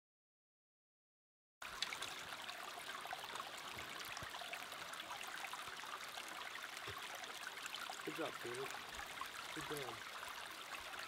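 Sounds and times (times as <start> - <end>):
brook trickling over stones: 1.6 - 11.0.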